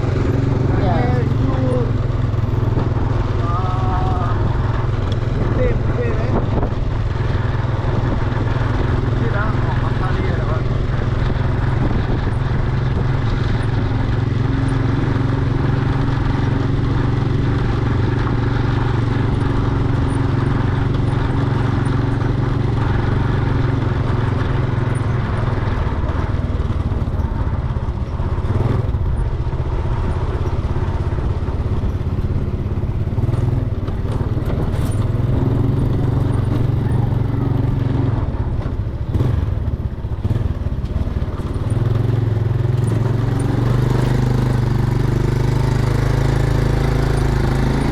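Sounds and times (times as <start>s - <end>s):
engine droning steadily: 0.0s - 47.9s.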